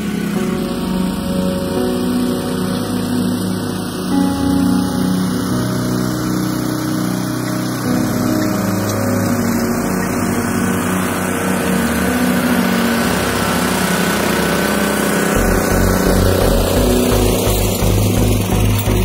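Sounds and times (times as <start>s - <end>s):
tiller engine running: 0.0s - 19.0s.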